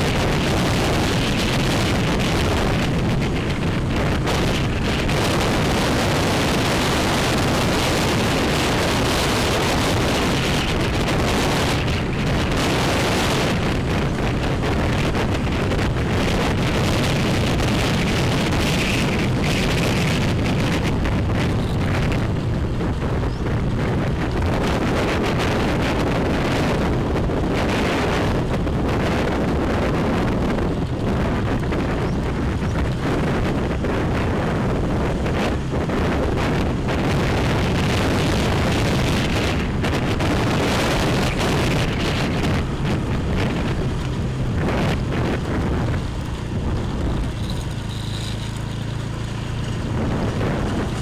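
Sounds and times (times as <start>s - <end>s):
motorbike riding noise: 0.0s - 51.0s
wind buffeting microphone: 0.0s - 51.0s.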